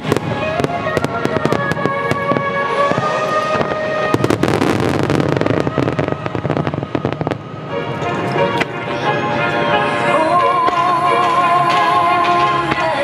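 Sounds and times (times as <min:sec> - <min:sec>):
fireworks bursting and crackling: 0:00.0 - 0:09.9, 0:10.6 - 0:13.0
song with held notes: 0:00.0 - 0:13.0.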